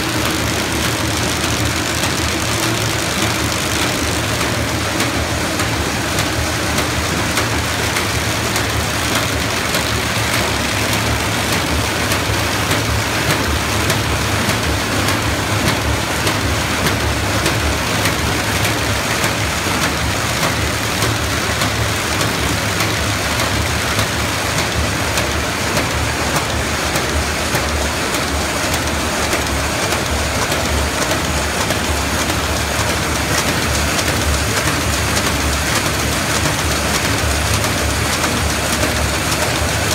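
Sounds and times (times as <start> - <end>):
paper bag machine clattering: 0.0 - 39.9.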